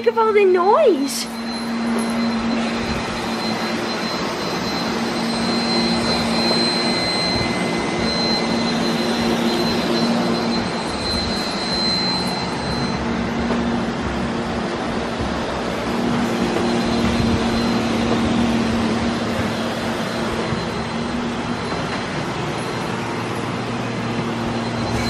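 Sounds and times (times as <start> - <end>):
thin high whine: 0.0 - 25.0
robot vacuums whirring: 0.9 - 25.0
low motor hum: 1.2 - 25.0.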